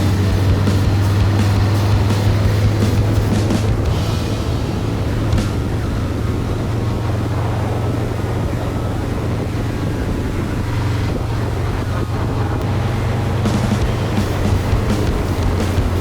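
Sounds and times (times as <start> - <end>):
motorcycle engine droning: 0.0 - 16.0
wind rushing over microphone: 0.0 - 16.0.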